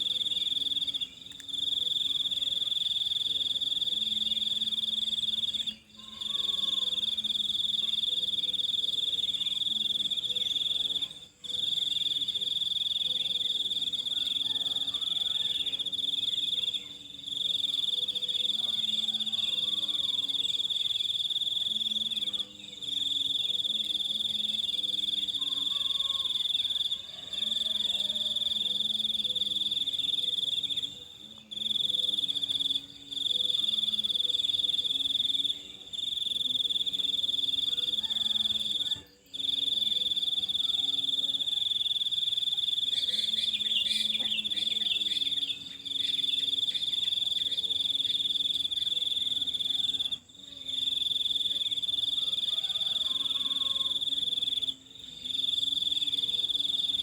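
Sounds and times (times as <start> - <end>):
high-pitched insect trill: 0.0 - 57.0.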